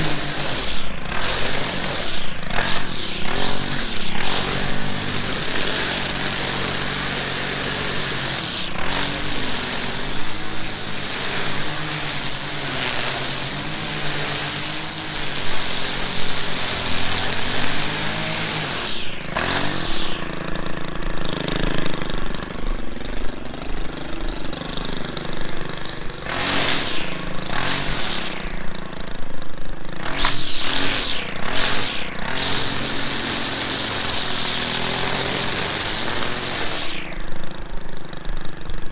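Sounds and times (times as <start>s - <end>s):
spinning line whirring: 0.0s - 22.9s, 25.9s - 38.2s
string trimmer engine: 0.0s - 38.9s.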